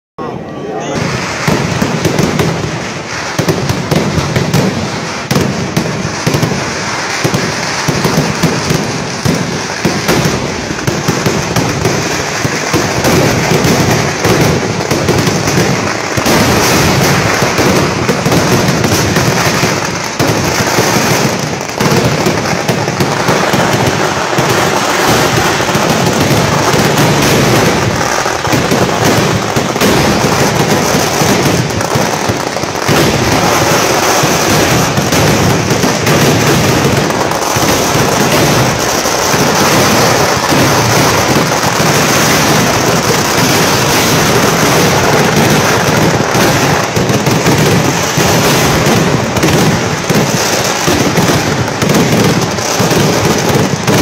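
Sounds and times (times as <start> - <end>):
fireworks bursting and crackling: 0.2 - 54.0.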